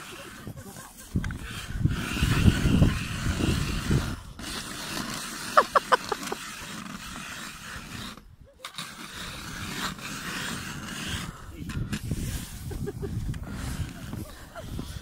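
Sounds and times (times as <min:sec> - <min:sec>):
ice auger grinding into ice: 0:00.0 - 0:15.0.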